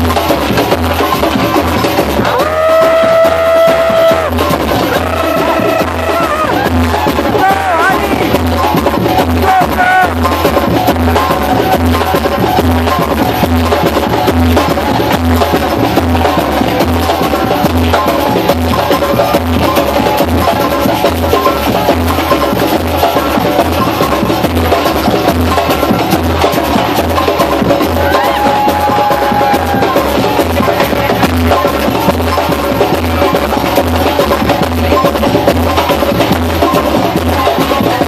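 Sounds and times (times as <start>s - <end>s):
fast hand drum rhythms: 0.0s - 38.0s.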